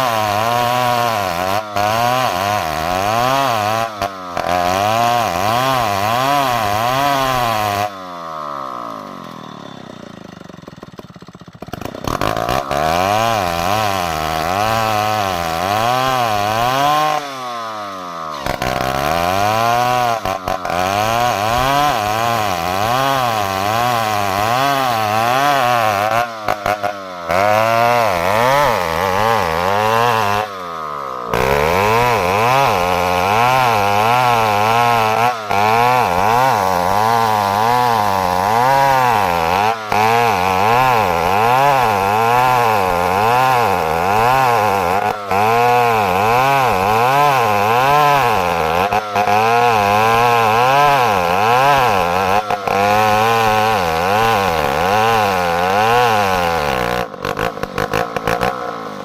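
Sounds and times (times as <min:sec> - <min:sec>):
chainsaw sawing wood: 0:00.0 - 0:59.0.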